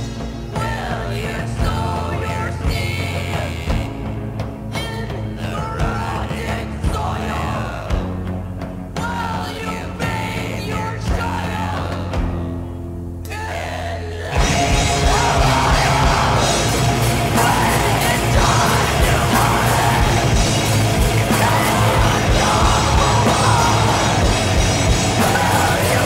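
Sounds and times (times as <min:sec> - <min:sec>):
harsh yelled vocals: 0:00.0 - 0:08.2, 0:08.9 - 0:12.3, 0:13.2 - 0:26.0
distorted guitars: 0:00.0 - 0:26.0
drums: 0:00.0 - 0:26.0.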